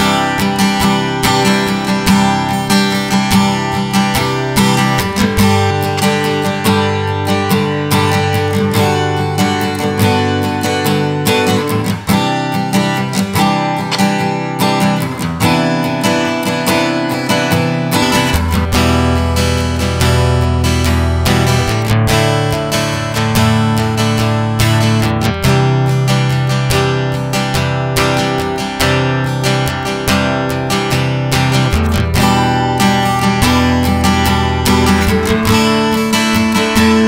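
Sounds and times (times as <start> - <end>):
strummed acoustic guitar chords: 0.0 - 37.0.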